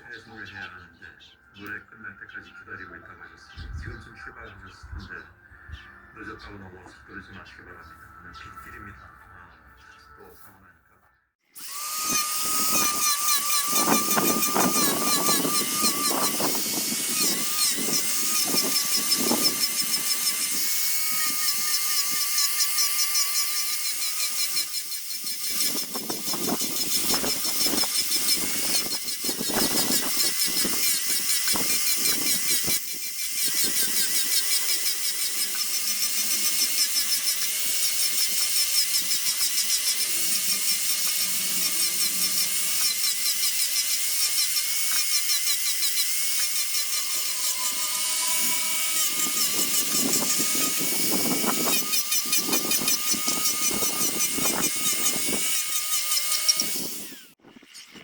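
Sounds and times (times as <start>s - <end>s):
power tool whining cutting wood: 11.6s - 58.0s.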